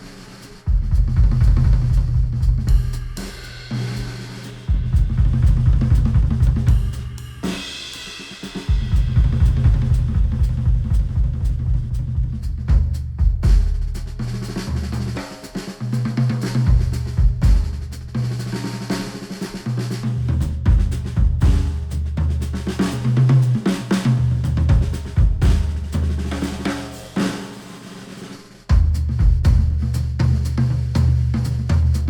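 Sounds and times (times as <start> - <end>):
music with drums and heavy bass: 0.0 - 32.0.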